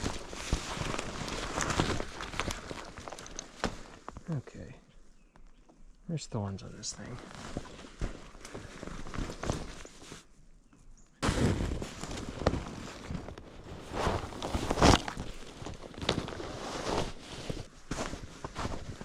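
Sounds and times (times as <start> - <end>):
footsteps crunching through snow: 0.0 - 4.2, 6.9 - 10.3, 11.2 - 19.0.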